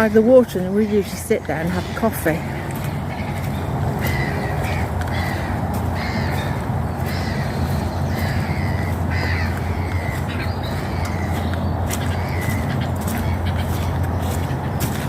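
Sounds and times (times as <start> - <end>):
bird harsh calls: 0.0 - 15.0
steady low hum: 0.0 - 15.0.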